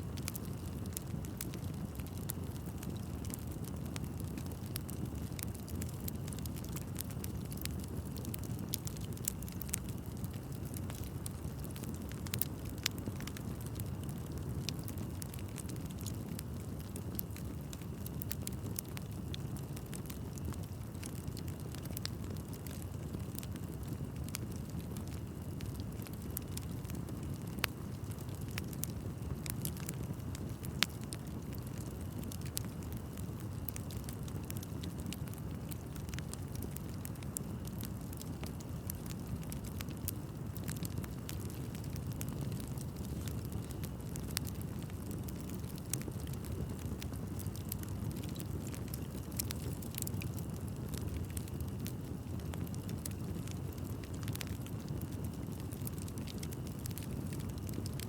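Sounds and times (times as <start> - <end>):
fire pops and crackles: 0.0 - 58.0
wood fire rumbling: 0.0 - 58.0.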